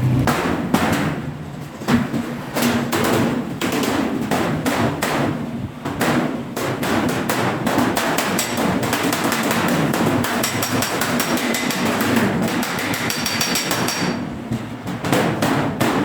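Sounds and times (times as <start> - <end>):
hammer striking steel sheet: 0.0 - 14.3.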